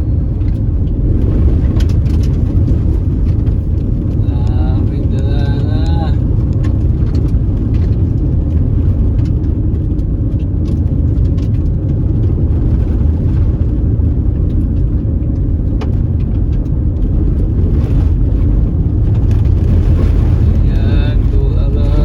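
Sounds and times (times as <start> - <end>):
car rumble on unpaved road: 0.0 - 22.0.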